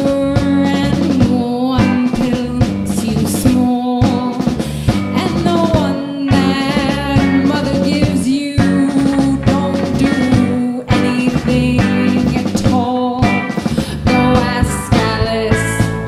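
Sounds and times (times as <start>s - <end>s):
bass guitar: 0.0s - 16.0s
drum kit hits: 0.0s - 16.0s
electric guitars: 0.0s - 16.0s
woman singing: 0.0s - 16.0s.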